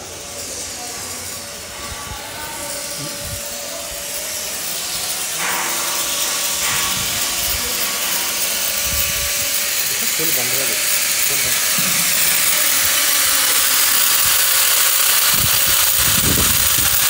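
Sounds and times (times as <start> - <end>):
electric marble cutter cutting: 0.0 - 17.0.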